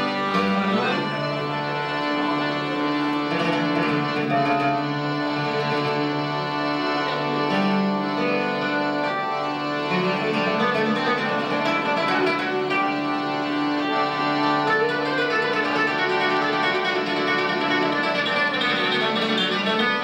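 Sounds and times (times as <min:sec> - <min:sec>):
acoustic guitar plucked: 0:00.0 - 0:02.5, 0:03.2 - 0:13.4, 0:14.4 - 0:20.0.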